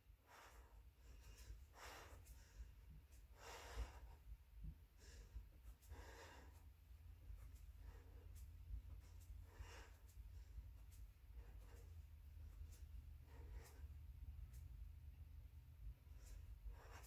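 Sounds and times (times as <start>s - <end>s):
low steady hum: 0.0s - 17.0s
woman breathing faintly: 0.1s - 17.0s.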